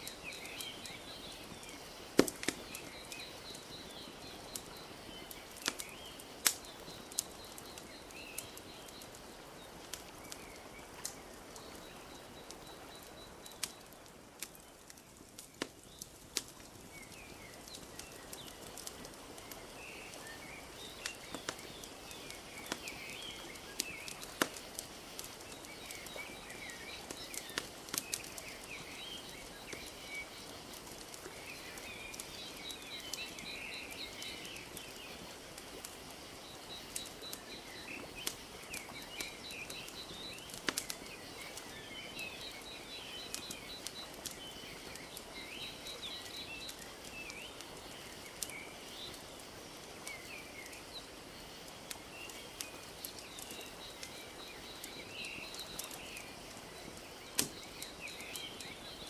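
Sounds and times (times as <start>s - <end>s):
birds chirping: 0.0s - 59.0s
wood fire crackling: 0.0s - 59.0s.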